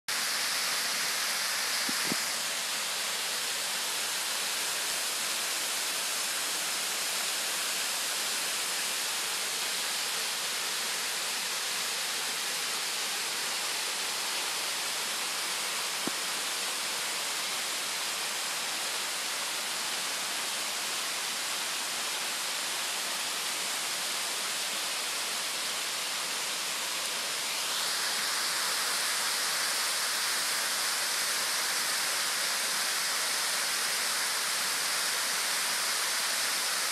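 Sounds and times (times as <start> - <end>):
waterfall rushing: 0.1 - 36.9.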